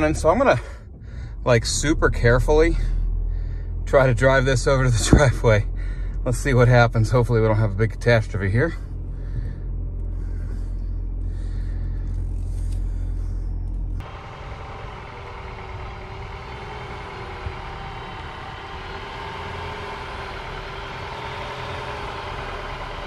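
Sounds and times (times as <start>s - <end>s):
car idling hum: 0.0s - 23.0s
low rumble inside car cabin: 0.0s - 23.0s.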